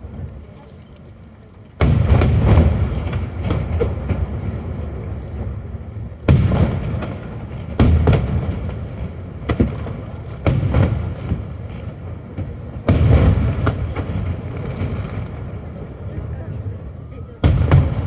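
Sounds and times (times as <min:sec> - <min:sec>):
rumbling crackle: 0:00.0 - 0:18.0.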